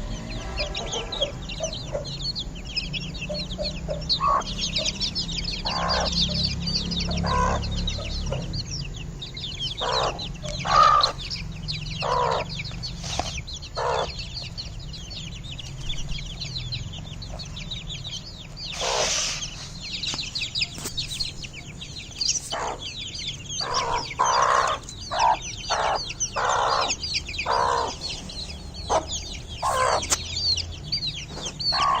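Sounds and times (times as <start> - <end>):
chicken calls: 0.0 - 32.0
chicks peeping: 0.0 - 32.0.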